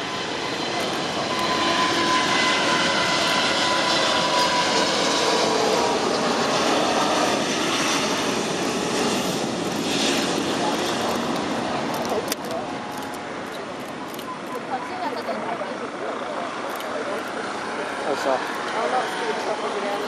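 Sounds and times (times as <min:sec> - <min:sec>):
faint engine whine: 0:00.0 - 0:20.0
jet engine roar: 0:00.0 - 0:20.0.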